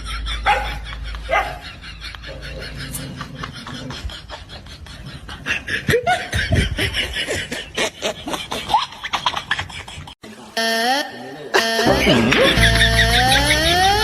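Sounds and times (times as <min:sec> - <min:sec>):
people laughing: 0:00.0 - 0:10.2, 0:11.4 - 0:14.0.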